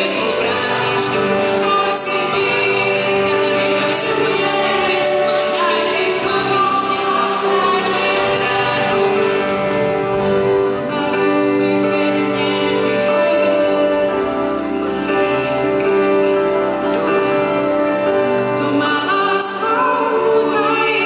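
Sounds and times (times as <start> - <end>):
choir and accompaniment: 0.0 - 21.0
woman and man singing: 0.0 - 21.0.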